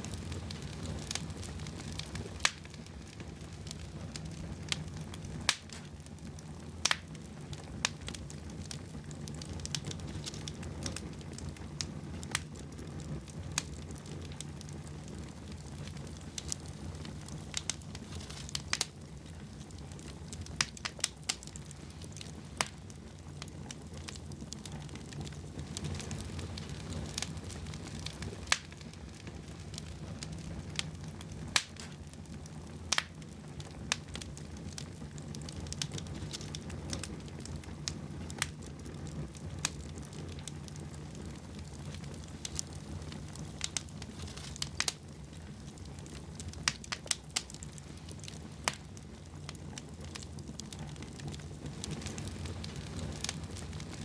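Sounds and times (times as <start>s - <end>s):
sharp pops of fire: 0.0s - 54.0s
wood fire crackling: 0.0s - 54.0s.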